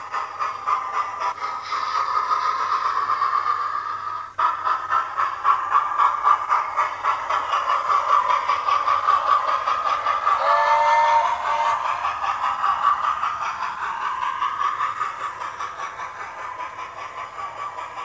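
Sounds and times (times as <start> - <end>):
model steam locomotive chuffs: 0.0 - 18.0.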